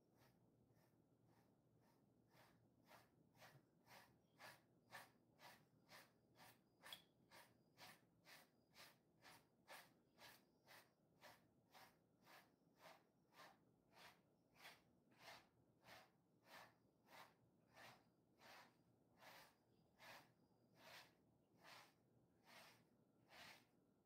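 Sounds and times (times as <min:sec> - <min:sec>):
brush scratching through dog fur: 0:00.0 - 0:23.8.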